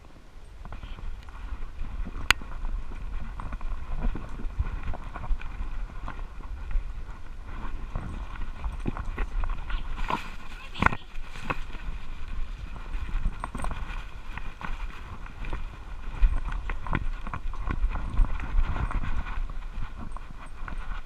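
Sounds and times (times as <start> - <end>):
camera rumble and bumping: 0.6 - 21.0.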